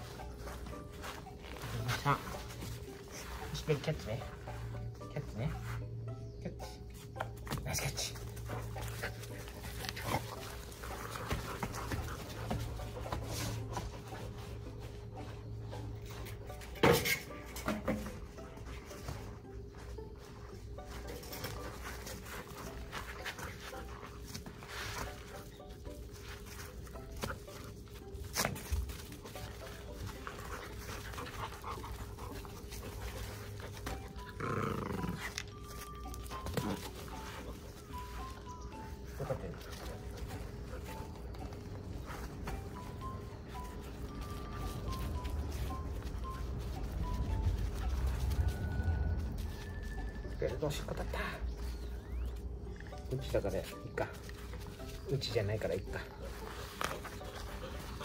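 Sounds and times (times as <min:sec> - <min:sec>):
dogs panting: 0:00.0 - 0:58.0
paws scuffling on turf: 0:00.0 - 0:58.0.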